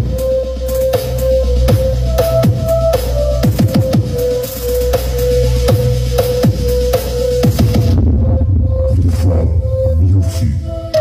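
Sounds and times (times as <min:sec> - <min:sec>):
electronic dance music loud: 0:00.0 - 0:11.0.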